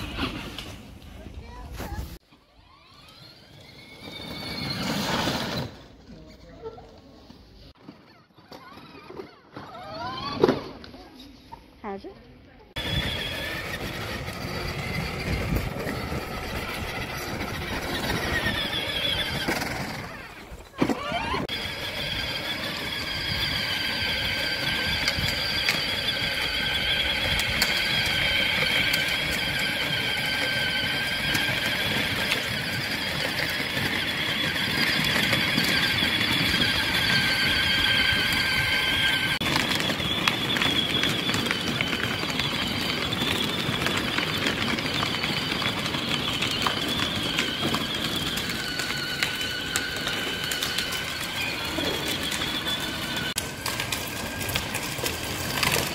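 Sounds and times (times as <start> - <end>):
plastic wheels rumbling on paving: 0.0 - 11.4, 12.7 - 55.9
toy electric motors whining: 2.2 - 5.9, 7.8 - 11.1, 12.8 - 55.9.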